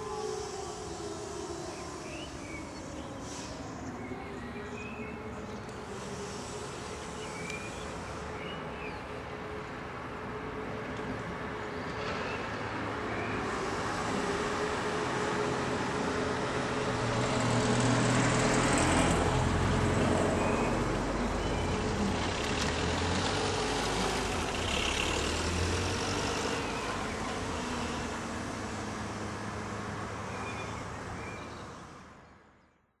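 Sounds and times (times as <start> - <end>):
vehicle engine hum: 0.0 - 32.6
street traffic noise: 0.0 - 32.8.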